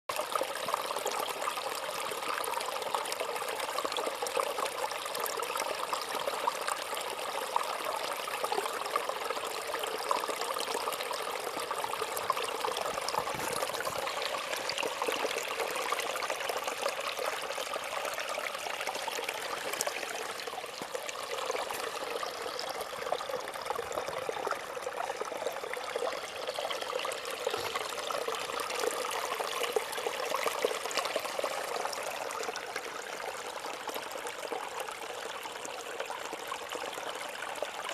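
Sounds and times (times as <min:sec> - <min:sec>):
brook babbling over stones: 0:00.1 - 0:37.9.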